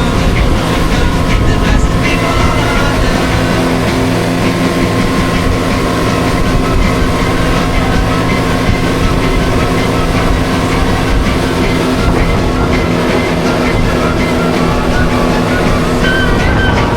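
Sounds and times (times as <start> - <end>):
outboard motor humming: 0.0 - 16.9.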